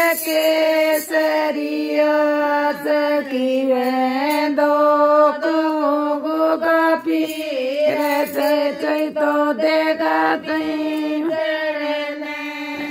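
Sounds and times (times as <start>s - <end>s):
women singing devotional song: 0.0s - 12.9s.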